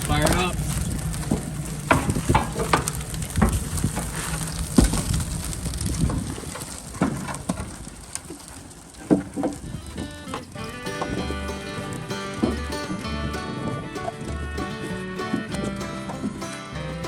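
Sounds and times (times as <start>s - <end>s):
fire pops: 0.0s - 17.0s
wood fire crackling: 0.0s - 17.0s.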